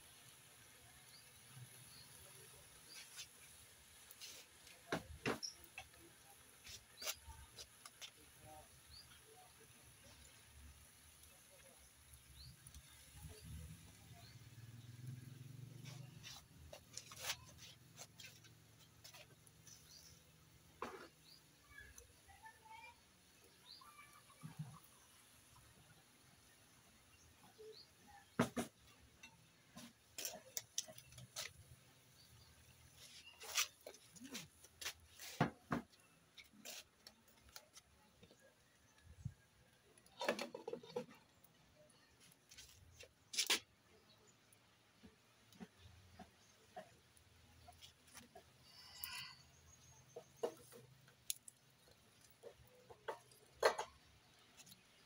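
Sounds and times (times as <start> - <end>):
fire crackling and popping: 0.0 - 22.2, 27.1 - 55.0.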